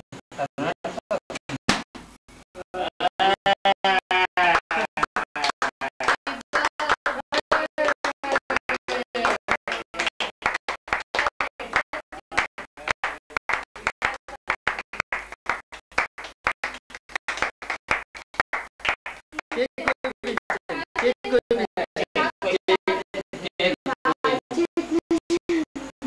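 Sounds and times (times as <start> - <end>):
people clapping: 3.8 - 25.6.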